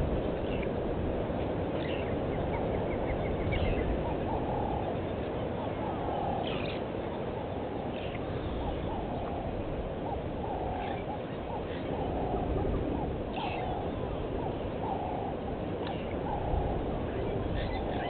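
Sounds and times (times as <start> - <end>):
steady background hiss: 0.0 - 18.0
wild birds calling: 0.0 - 18.0.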